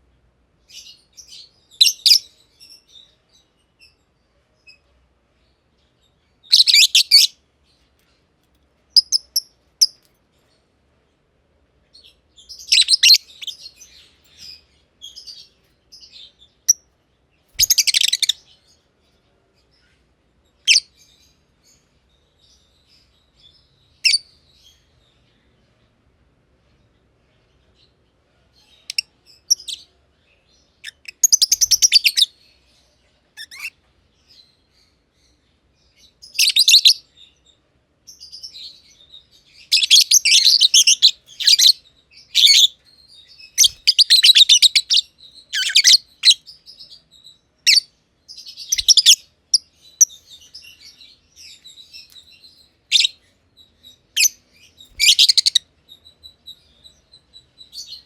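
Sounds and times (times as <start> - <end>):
lovebirds chirping: 0.7 - 10.6, 11.9 - 26.0, 27.3 - 37.5, 38.1 - 58.0.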